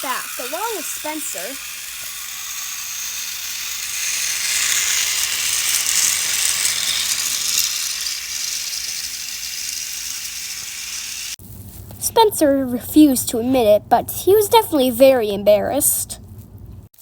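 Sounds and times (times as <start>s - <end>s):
toy train whirring on track: 0.0s - 11.4s, 12.2s - 16.2s.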